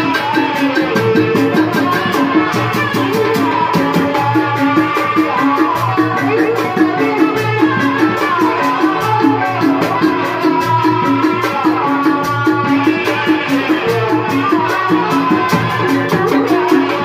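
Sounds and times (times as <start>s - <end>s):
quick percussion beat: 0.0s - 17.0s.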